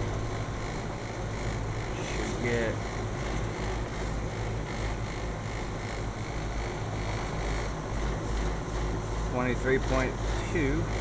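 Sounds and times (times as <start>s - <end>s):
air conditioner hum: 0.0s - 11.0s
fan whirring: 0.0s - 11.0s.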